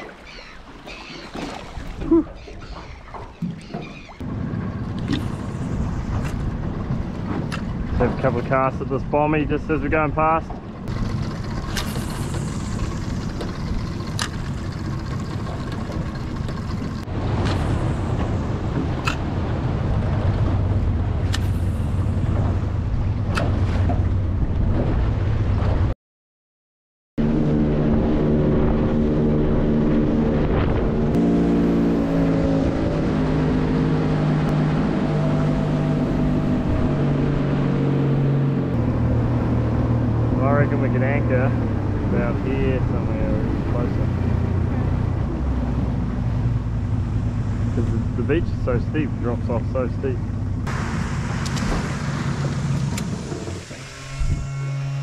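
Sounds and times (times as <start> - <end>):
outboard motor running: 0.0 - 25.8, 27.2 - 55.0.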